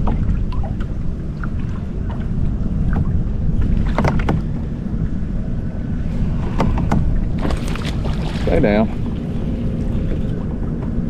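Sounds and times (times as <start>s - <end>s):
water lapping against kayak: 0.0s - 11.0s
wind rumbling on microphone: 0.0s - 11.0s.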